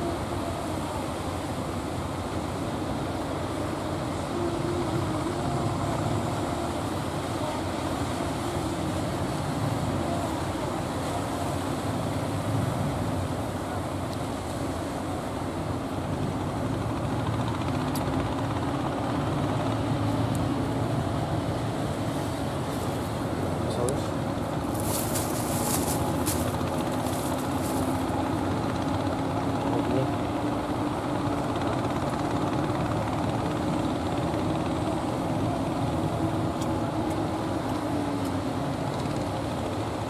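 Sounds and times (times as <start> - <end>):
boat engines running: 0.0 - 40.0
waves breaking: 0.0 - 40.0.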